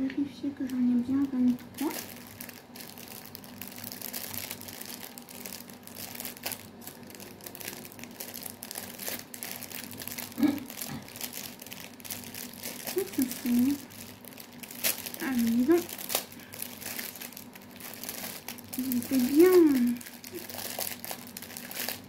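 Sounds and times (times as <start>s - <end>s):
plastic bags crinkling: 0.6s - 22.0s.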